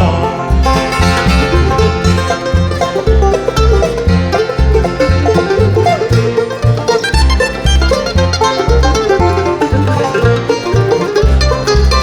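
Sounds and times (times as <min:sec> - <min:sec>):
banjo: 0:00.0 - 0:12.0
bluegrass band playing: 0:00.0 - 0:12.0
walking bass line: 0:00.0 - 0:12.0.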